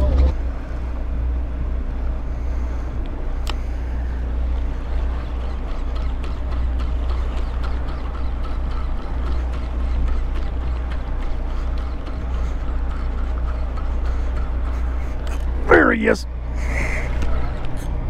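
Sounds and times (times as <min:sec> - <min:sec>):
boat engine rumbling: 0:00.0 - 0:18.0
wind and water noise: 0:00.0 - 0:18.0.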